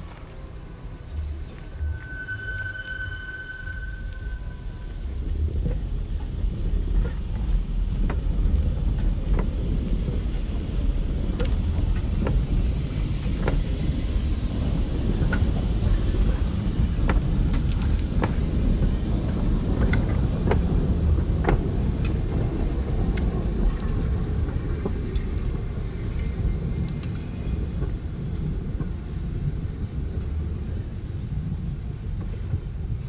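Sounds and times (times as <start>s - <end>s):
tram rolling past: 0.0s - 33.0s.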